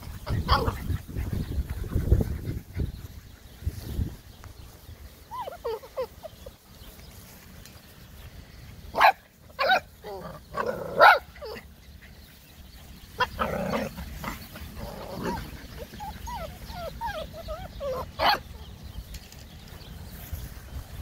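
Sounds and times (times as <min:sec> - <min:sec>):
puppies whining: 0:00.0 - 0:03.9, 0:04.7 - 0:07.3, 0:09.5 - 0:20.6
puppies yipping: 0:00.0 - 0:07.4, 0:08.9 - 0:21.0.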